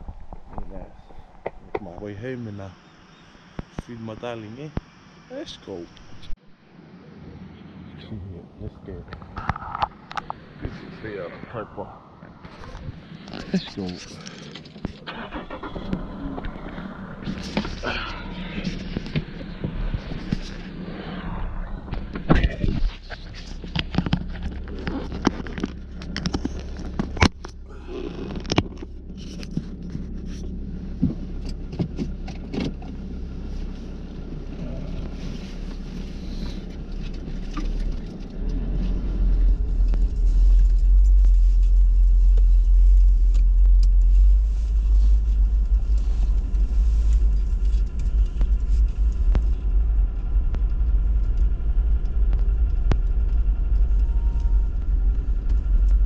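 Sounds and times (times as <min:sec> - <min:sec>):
car engine: 0:00.0 - 0:56.0
road rumble inside car: 0:07.1 - 0:56.0.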